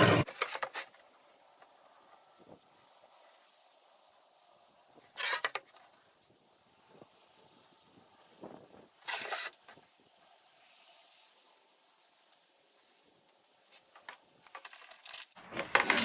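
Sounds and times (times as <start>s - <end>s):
scratching strokes on a board: 0.2s - 15.2s.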